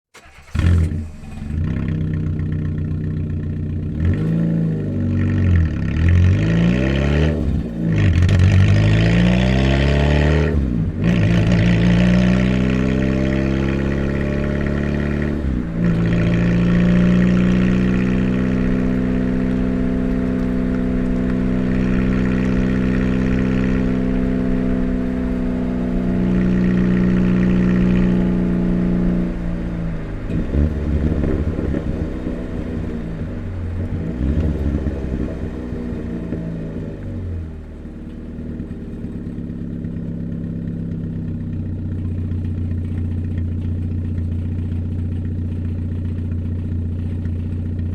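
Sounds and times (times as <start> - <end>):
noisy car engine revving: 0.1 - 47.9.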